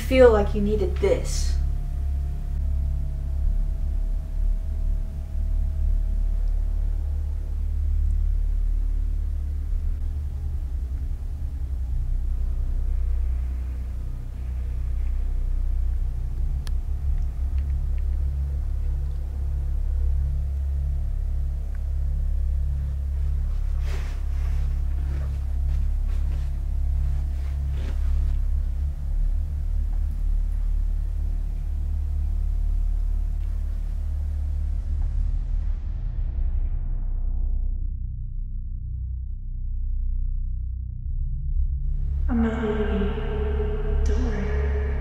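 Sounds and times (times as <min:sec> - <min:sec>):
low rumbling film score drone: 0:00.0 - 0:45.0
pulsing bass: 0:00.0 - 0:45.0.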